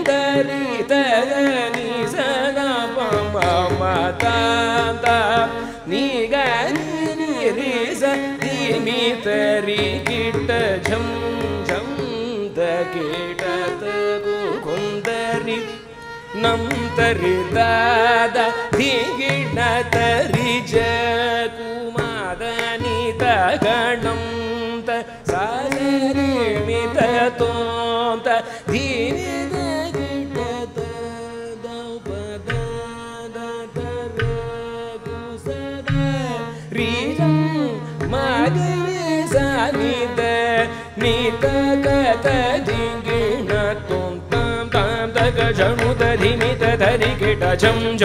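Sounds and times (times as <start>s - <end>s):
man singing ornamented phrases: 0.0s - 48.0s
violin: 0.0s - 48.0s.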